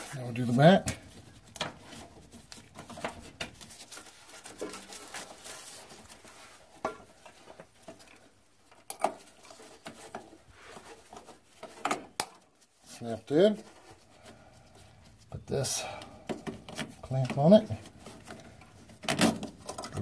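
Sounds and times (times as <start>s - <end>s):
gloved hands rustling: 0.0s - 20.0s.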